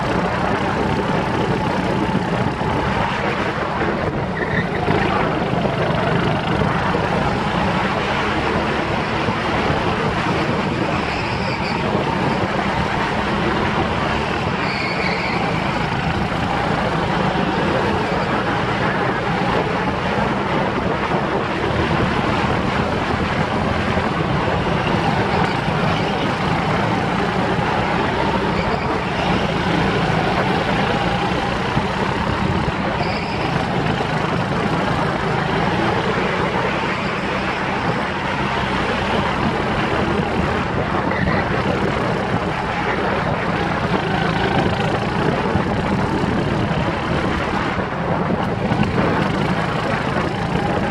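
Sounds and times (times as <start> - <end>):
go-kart engine droning: 0.0 - 50.9.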